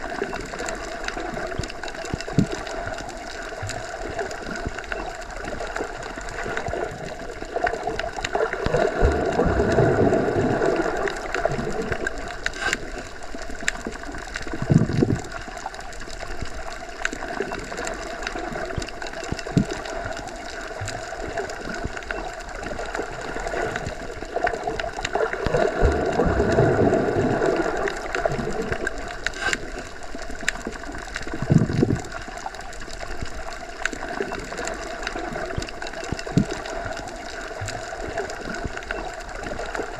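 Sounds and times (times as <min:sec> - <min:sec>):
muffled underwater hum: 0:00.0 - 0:39.9.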